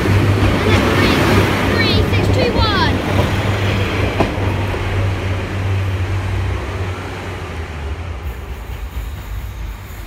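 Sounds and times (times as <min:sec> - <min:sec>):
diesel train engine droning: 0:00.0 - 0:10.0
rail noise: 0:00.0 - 0:10.0.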